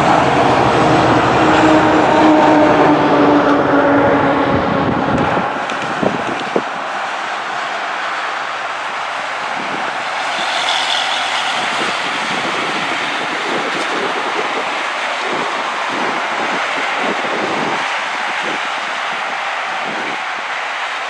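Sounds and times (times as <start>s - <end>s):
highway traffic rushing: 0.0s - 21.0s.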